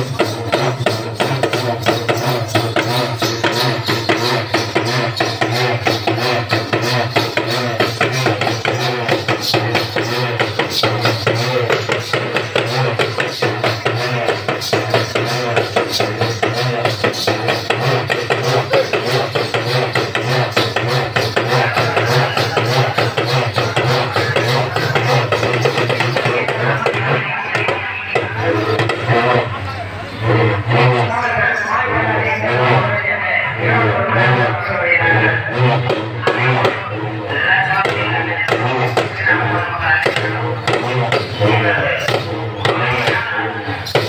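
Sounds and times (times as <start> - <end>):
drums with moaning pitch: 0.0 - 44.0.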